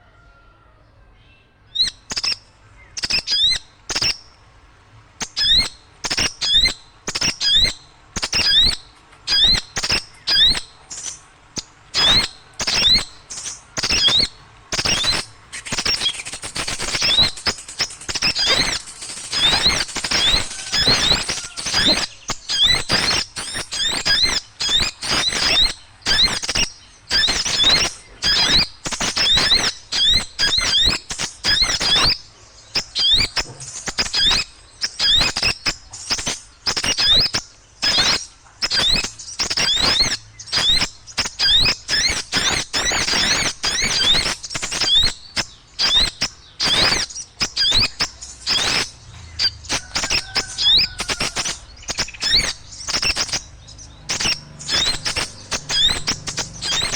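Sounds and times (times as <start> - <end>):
small birds chattering: 0.0 - 56.9.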